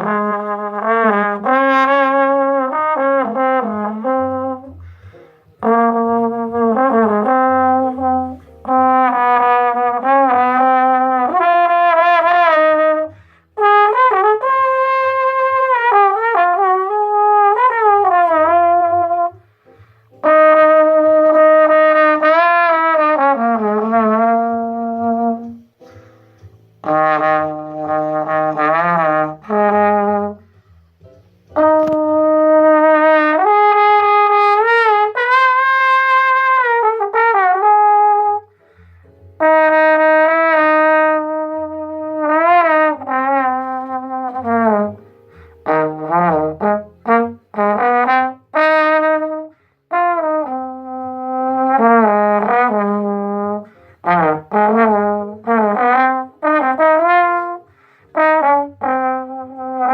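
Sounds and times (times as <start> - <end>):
brass instrument jazz solo: 0.0 - 59.9.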